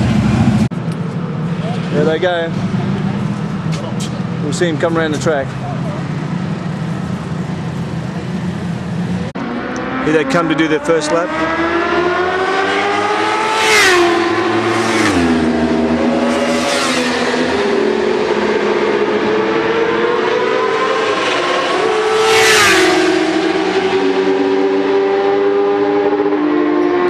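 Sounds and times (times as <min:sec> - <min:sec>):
motorcycles passing at speed: 0:00.0 - 0:27.0.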